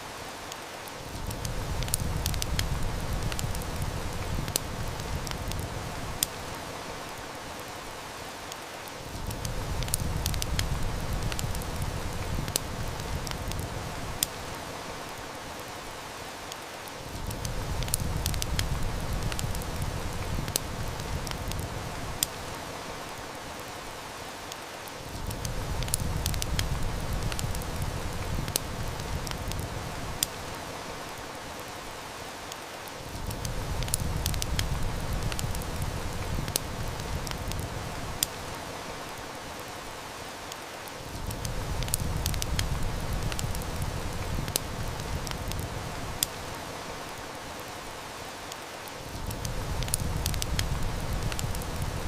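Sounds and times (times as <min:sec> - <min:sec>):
heavy rain: 0:00.0 - 0:52.0
wood fire crackling: 0:00.0 - 0:52.0.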